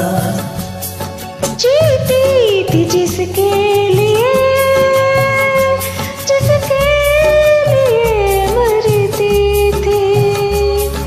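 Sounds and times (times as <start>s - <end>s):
karaoke backing track: 0.0s - 11.0s.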